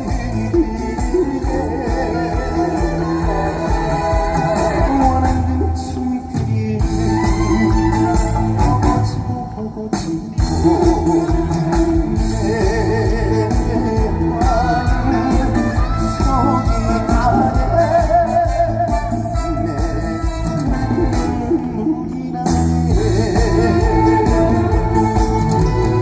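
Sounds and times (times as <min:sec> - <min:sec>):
backing band with guitar: 0:00.0 - 0:26.0
man singing with vibrato: 0:00.0 - 0:26.0.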